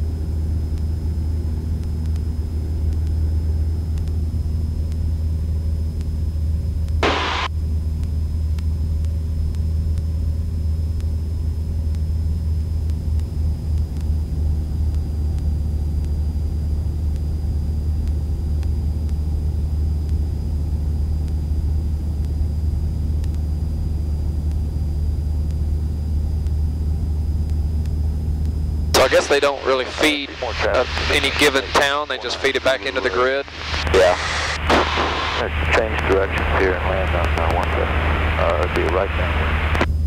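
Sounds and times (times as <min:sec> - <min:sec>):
airplane engine droning: 0:00.0 - 0:40.0
faint high whine: 0:00.0 - 0:40.0.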